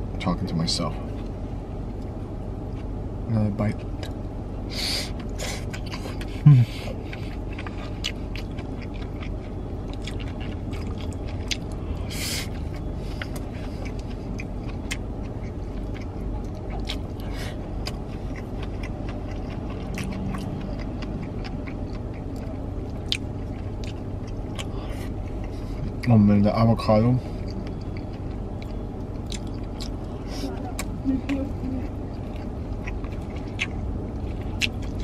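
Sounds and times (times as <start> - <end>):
low hum: 0.0 - 35.0
chewing and mouth sounds: 5.0 - 26.1, 26.7 - 35.0.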